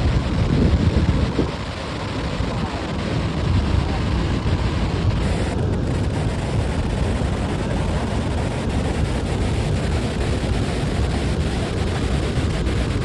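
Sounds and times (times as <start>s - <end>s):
waterfall roaring: 0.0s - 13.0s
wind on microphone: 0.0s - 13.0s.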